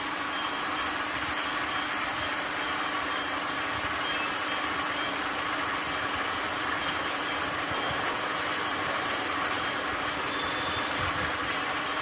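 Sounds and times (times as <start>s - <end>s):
level crossing warning bell ringing: 0.0s - 12.0s.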